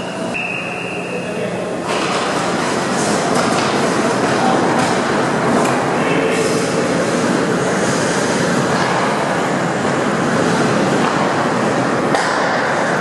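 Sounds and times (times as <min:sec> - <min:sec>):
ice hockey play in rink: 0:01.9 - 0:13.0.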